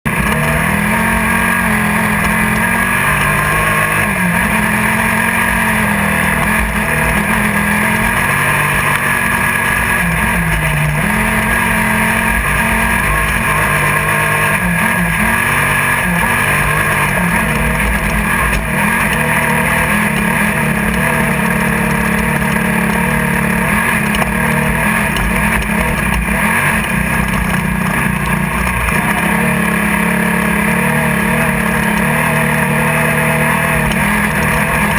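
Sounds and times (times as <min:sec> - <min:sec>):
race buggy engine running hard: 0:00.0 - 0:34.9
steady rushing noise: 0:00.1 - 0:34.9.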